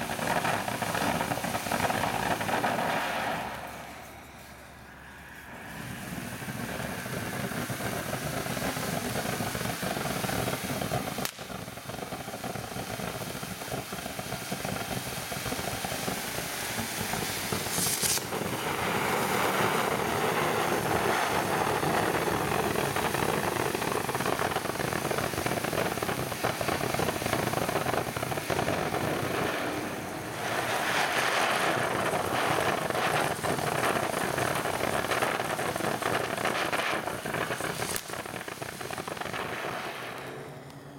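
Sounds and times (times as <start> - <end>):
firework fountain hissing and crackling: 0.0 - 40.9.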